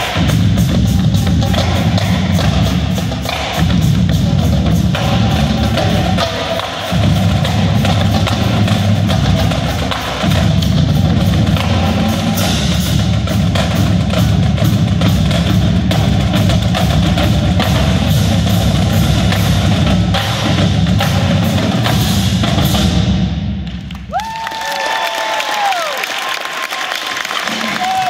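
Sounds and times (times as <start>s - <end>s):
pitched bass drums: 0.0s - 24.2s
cymbals: 0.0s - 24.3s
tenor drums: 0.0s - 24.8s
snare drums: 0.0s - 28.0s.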